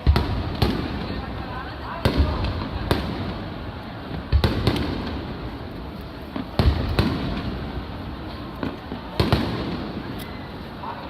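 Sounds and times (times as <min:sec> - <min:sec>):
firework shells booming: 0:00.0 - 0:10.2.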